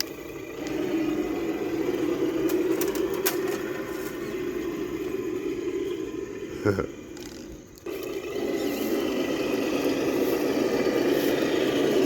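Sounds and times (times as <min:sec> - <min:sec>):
toy car motor and gears whining: 0:00.0 - 0:05.1, 0:07.0 - 0:12.0.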